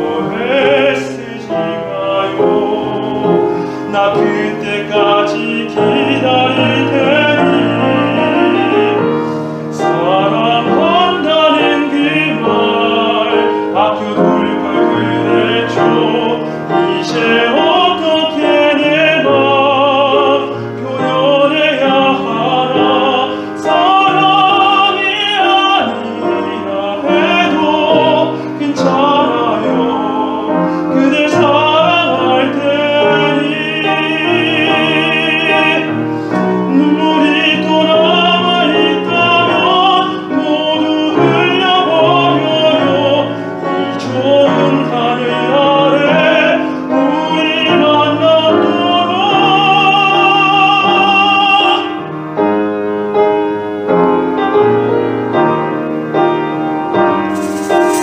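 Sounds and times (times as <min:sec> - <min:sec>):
operatic singing: 0:00.0 - 0:52.2
piano: 0:00.0 - 0:58.0.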